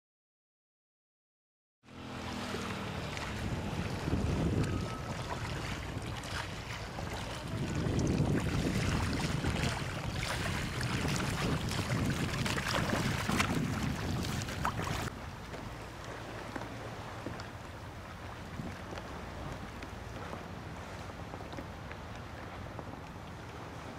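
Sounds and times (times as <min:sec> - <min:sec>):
paddles splashing in water: 0:01.9 - 0:23.9
wind buffeting microphone: 0:02.6 - 0:23.9.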